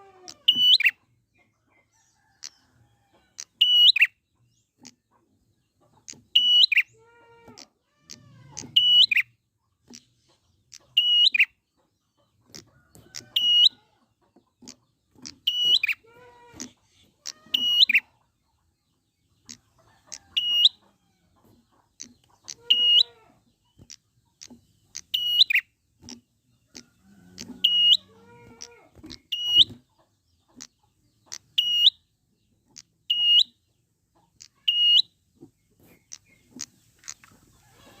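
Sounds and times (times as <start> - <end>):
bird high-pitched calls: 0.0 - 1.1, 3.3 - 5.1, 5.8 - 18.2, 19.4 - 35.2
fainter lower bird calls: 0.0 - 18.3, 19.3 - 38.0.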